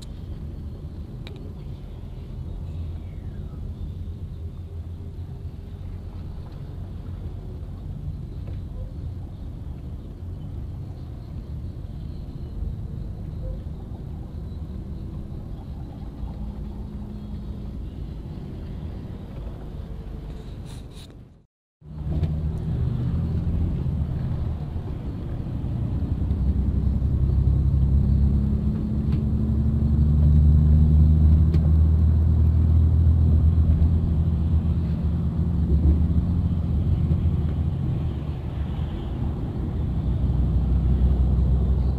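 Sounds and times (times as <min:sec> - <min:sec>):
vehicle driving on highway: 0:00.0 - 0:41.9.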